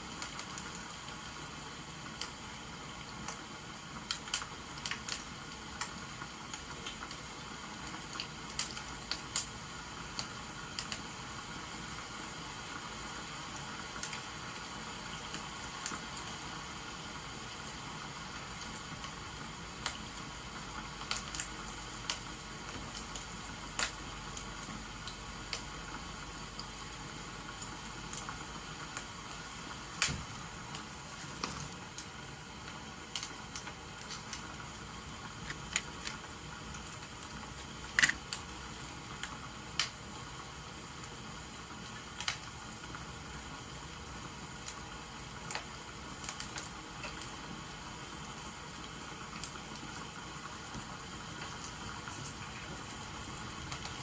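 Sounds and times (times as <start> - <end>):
rain hiss: 0.0 - 54.0
wood fire crackling: 0.0 - 54.0.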